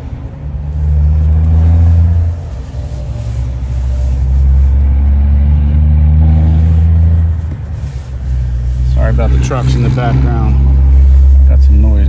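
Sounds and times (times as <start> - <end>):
truck engines rumbling: 0.0 - 12.0.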